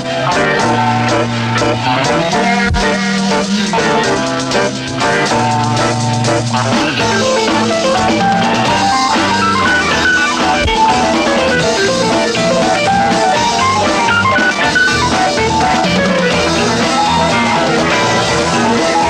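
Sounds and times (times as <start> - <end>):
rock band playing instrumental: 0.0 - 19.0.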